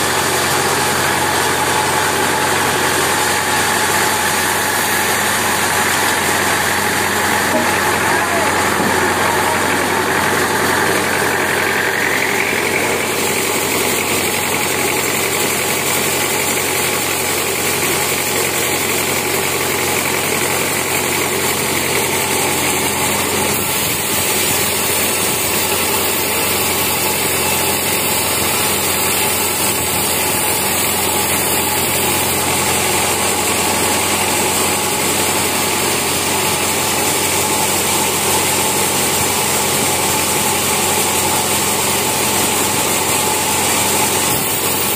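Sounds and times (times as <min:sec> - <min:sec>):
band saw cutting wood: 0:00.0 - 0:44.9.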